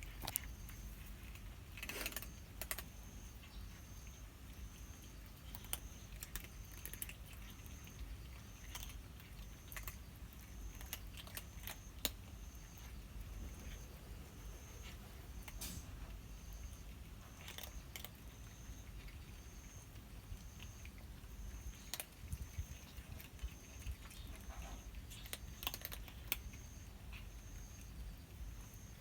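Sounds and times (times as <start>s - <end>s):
cats crunching dry food: 0.0s - 29.0s.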